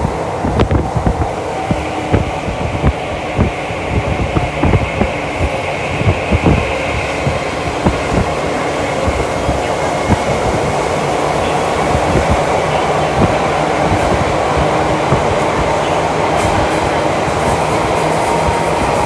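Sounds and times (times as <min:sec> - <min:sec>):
train wheels and motors rumbling: 0:00.0 - 0:19.0.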